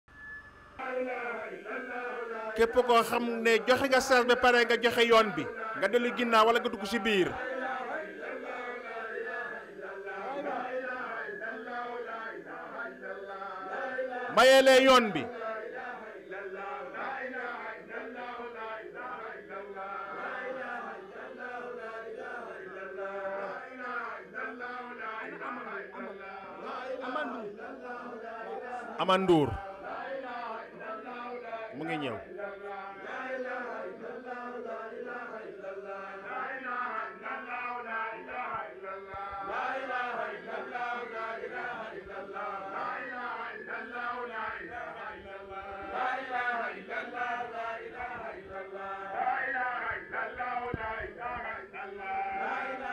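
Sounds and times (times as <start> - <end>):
men chanting together: 0.8 - 52.9.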